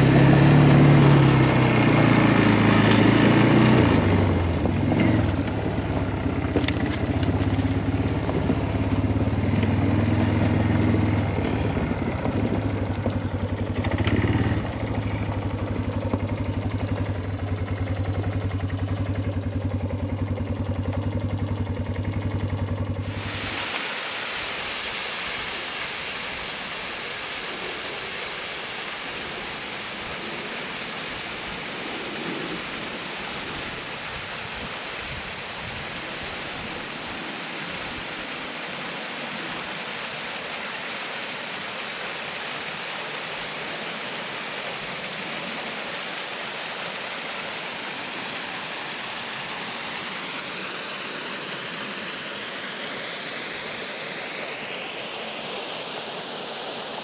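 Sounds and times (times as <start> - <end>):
water rushing over waterfall: 0.0 - 20.0, 23.0 - 57.0.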